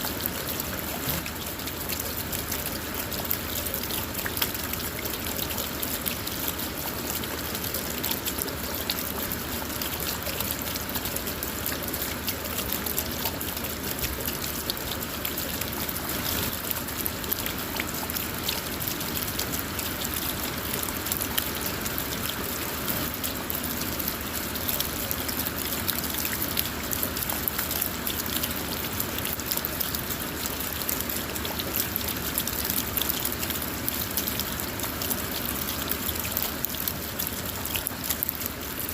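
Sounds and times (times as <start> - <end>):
rain on a car: 0.0 - 38.9
raindrops ticking on glass: 0.0 - 38.9.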